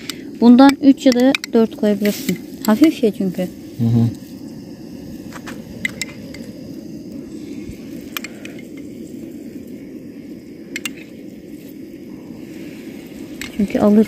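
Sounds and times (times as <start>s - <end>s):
low rushing background noise: 0.0s - 14.0s.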